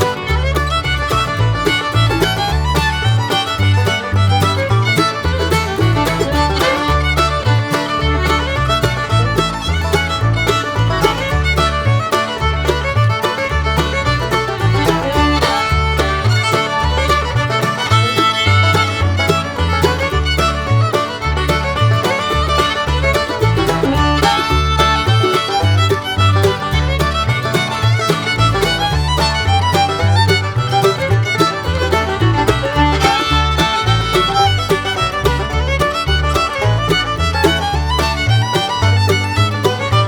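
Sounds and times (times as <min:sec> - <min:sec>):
country tune led by fiddle: 0:00.0 - 0:40.0
repeating bass line: 0:00.0 - 0:40.0.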